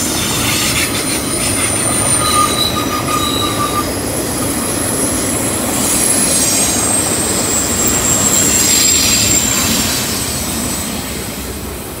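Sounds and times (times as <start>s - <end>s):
steel wheels rumbling: 0.0s - 11.3s
high wheel squeal: 0.2s - 11.0s.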